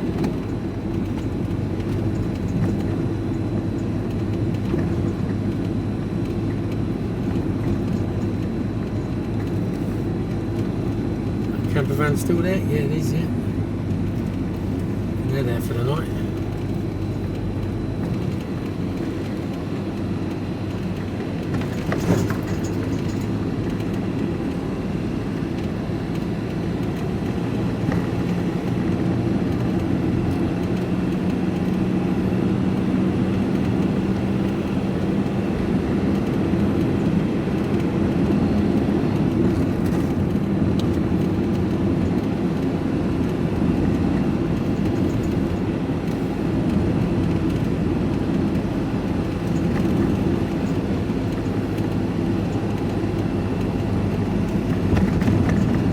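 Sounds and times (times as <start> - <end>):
engine and road noise in cab: 0.0 - 55.9.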